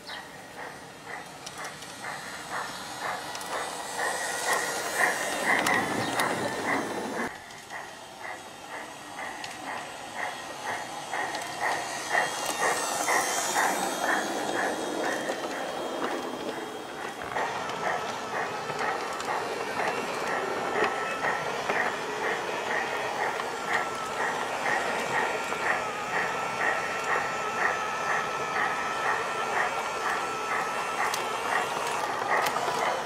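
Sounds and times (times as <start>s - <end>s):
model steam locomotive chuffing: 0.0s - 33.0s.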